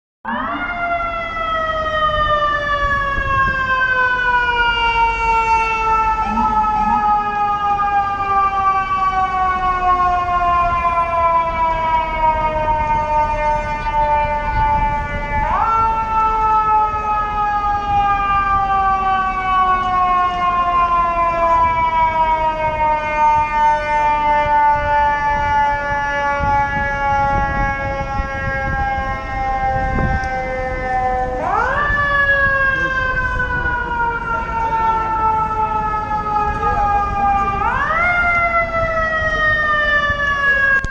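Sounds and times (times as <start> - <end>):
fire truck siren wailing: 0.2 - 40.9
traffic rumble: 0.3 - 40.9.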